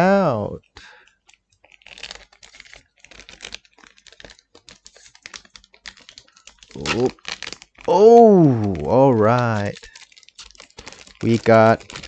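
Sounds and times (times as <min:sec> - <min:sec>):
cardboard packaging clicks and rustles: 0:00.6 - 0:08.0, 0:08.6 - 0:12.0.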